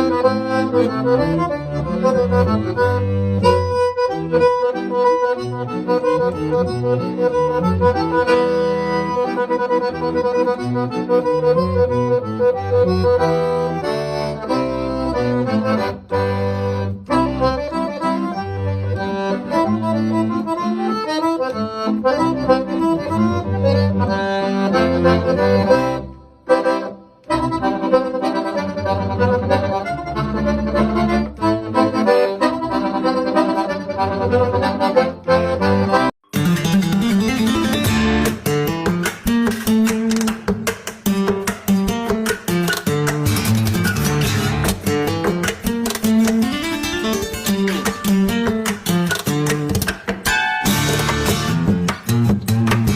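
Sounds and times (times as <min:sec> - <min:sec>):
accordion music: 0:00.0 - 0:52.9
steady bass line: 0:00.0 - 0:52.9.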